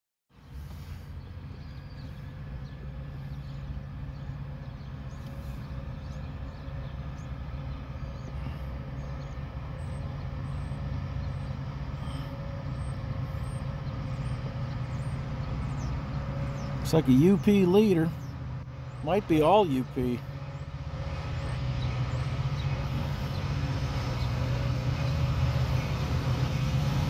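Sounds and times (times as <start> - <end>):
diesel locomotive engines droning: 0.3 - 27.0.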